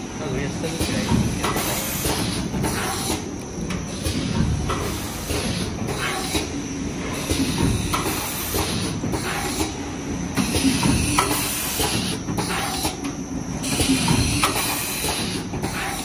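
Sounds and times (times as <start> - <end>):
machine clatter and rumble: 0.0 - 16.0.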